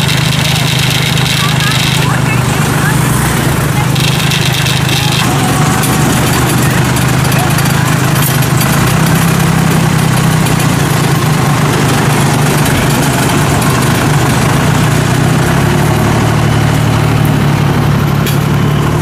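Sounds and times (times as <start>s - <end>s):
harvester engine running: 0.0s - 19.0s.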